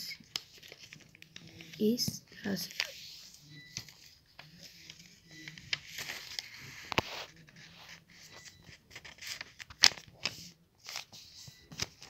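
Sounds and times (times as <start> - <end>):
paper being folded and creased: 0.2 - 12.0.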